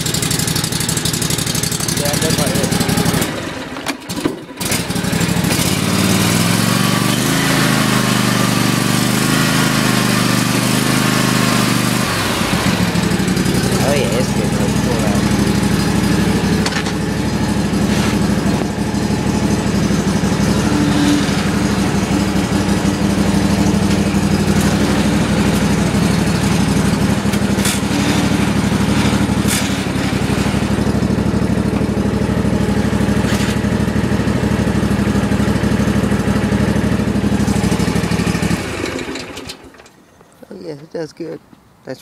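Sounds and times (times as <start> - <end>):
mower engine running: 0.0 - 41.1.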